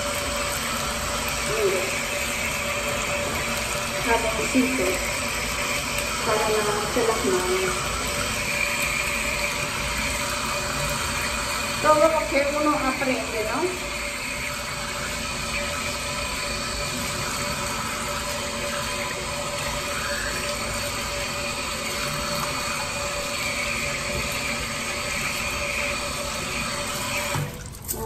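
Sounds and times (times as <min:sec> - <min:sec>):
water running from sink tap: 0:00.0 - 0:28.0.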